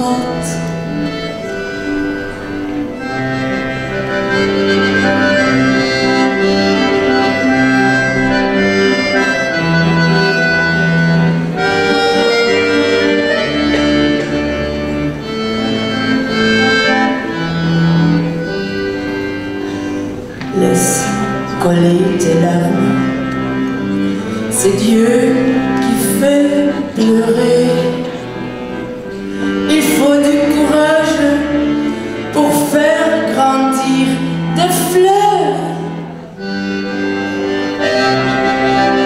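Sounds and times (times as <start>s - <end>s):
accordion playing slow song: 0.0s - 39.0s.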